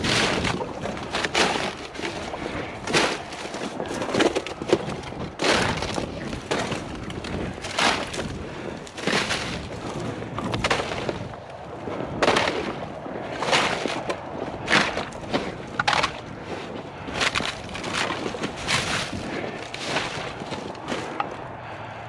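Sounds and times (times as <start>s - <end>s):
footsteps swishing through marsh: 0.0s - 21.6s.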